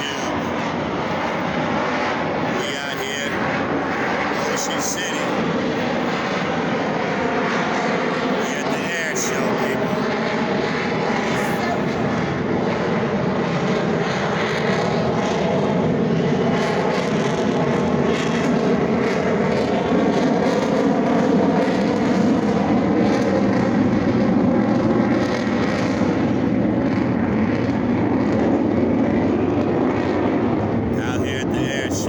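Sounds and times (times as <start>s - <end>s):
airplane engine droning: 0.0s - 32.0s.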